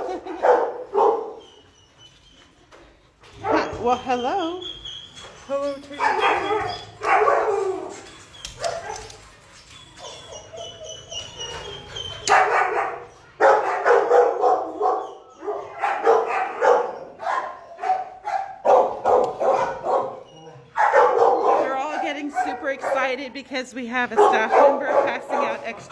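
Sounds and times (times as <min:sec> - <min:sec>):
dogs barking and yipping: 0:00.0 - 0:02.5, 0:03.2 - 0:23.4, 0:24.0 - 0:25.9.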